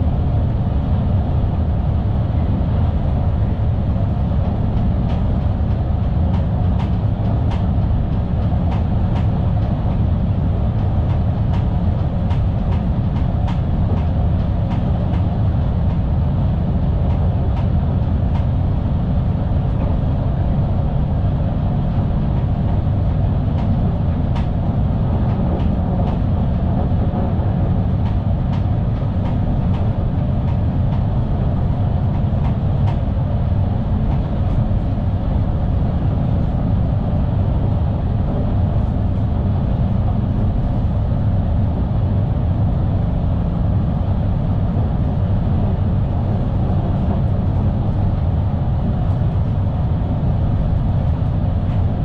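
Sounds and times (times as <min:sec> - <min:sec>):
train low rumble: 0:00.0 - 0:52.0.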